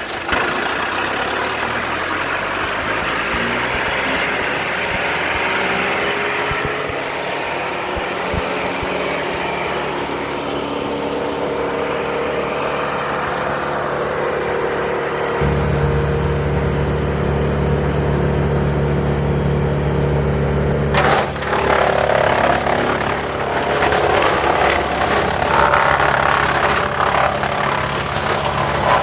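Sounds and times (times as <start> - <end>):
diesel engine revving: 0.0 - 29.0.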